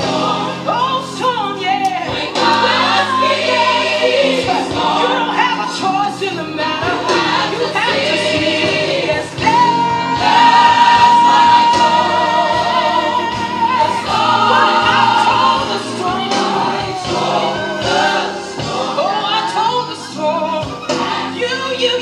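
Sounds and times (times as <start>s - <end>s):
gospel choir singing: 0.0s - 22.0s.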